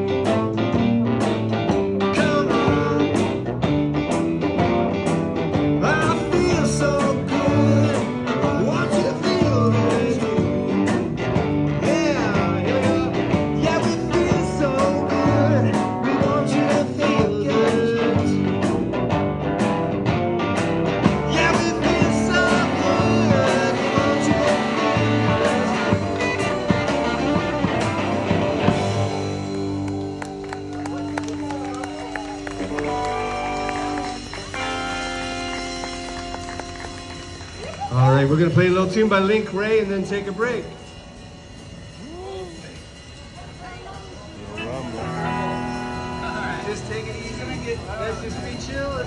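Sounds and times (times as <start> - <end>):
drums: 0.0 - 49.0
electric guitars: 0.0 - 49.0
keyboard: 0.0 - 49.0.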